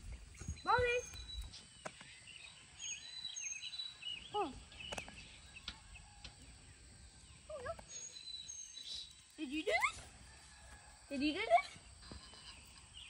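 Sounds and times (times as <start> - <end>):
birds chirping and singing: 0.0 - 10.6, 11.2 - 13.0.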